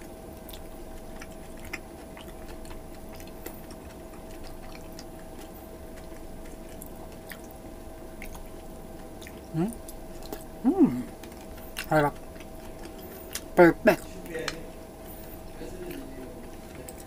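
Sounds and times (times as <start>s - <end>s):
faint steady hum: 0.0s - 17.0s
wet chewing and smacking: 0.0s - 17.0s.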